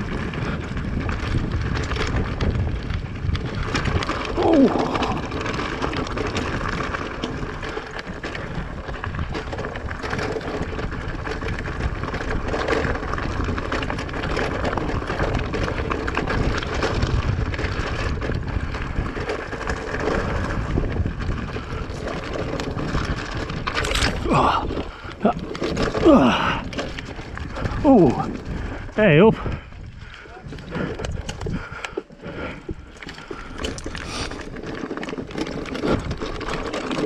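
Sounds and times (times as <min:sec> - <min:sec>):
bike rattling: 0:00.0 - 0:37.0
tyres crunching over stones: 0:00.0 - 0:37.0
wind rumble on microphone: 0:00.0 - 0:37.0.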